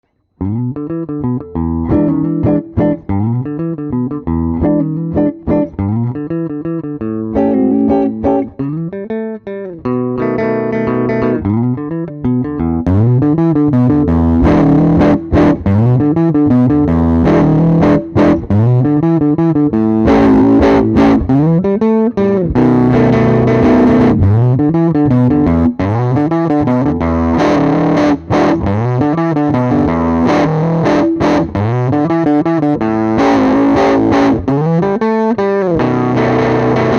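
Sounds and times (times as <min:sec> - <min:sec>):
fuzzed electric guitar riff: 0:00.4 - 0:36.9.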